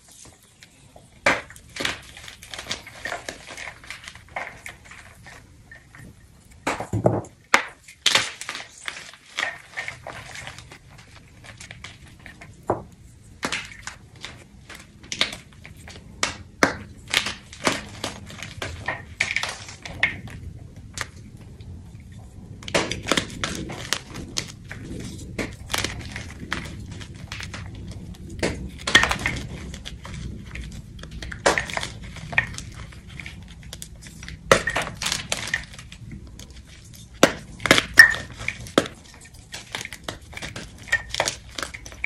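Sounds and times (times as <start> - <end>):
chalk crunching and crumbling: 0.0 - 42.0.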